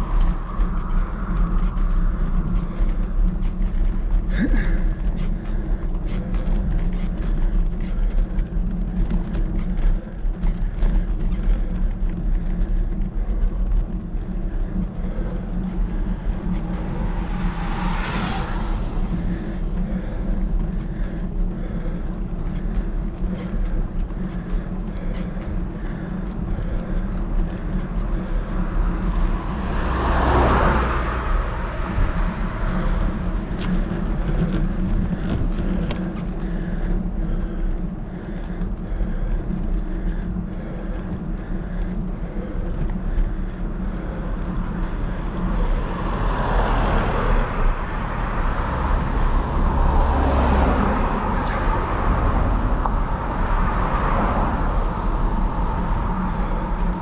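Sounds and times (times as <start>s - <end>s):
cars passing: 0.0s - 57.0s
low hum of road noise: 0.0s - 57.0s.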